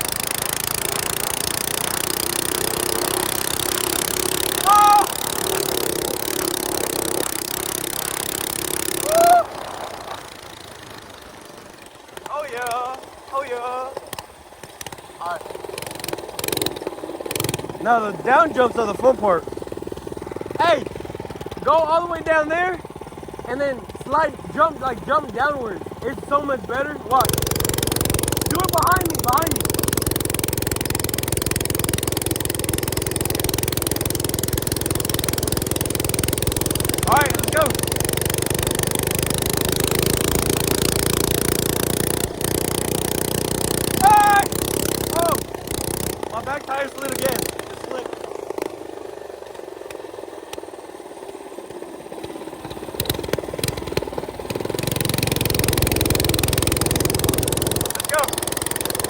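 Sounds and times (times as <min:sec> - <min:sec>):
minibike engine idling: 0:00.0 - 0:59.0.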